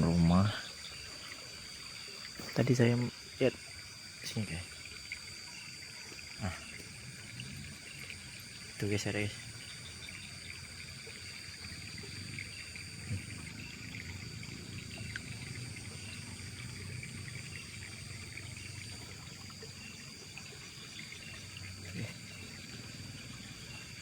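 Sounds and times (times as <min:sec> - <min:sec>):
crickets trilling: 0:00.0 - 0:24.0
water splashing and rustling: 0:00.0 - 0:24.0.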